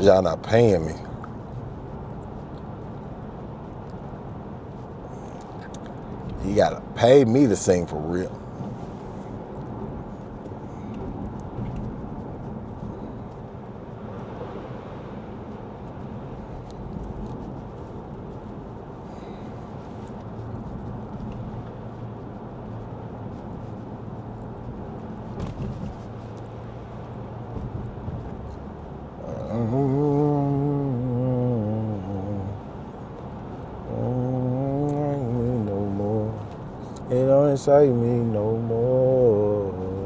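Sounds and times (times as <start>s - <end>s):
road and tyre noise on wet pavement: 0.0s - 40.0s.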